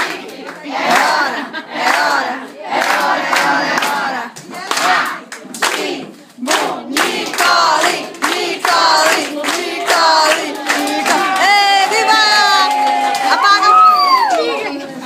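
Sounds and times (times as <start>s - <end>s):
hands clapping: 0.0s - 1.2s, 2.8s - 14.5s
group singing a celebration song: 0.0s - 13.5s.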